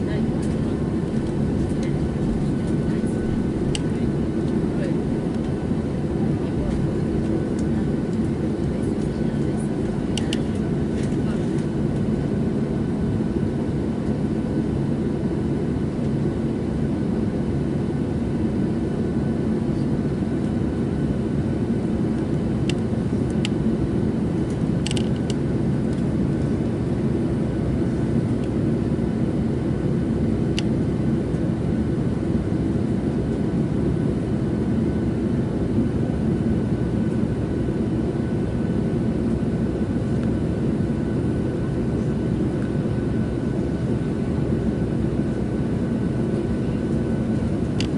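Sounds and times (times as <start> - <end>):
airplane cabin engine roar: 0.0 - 47.9.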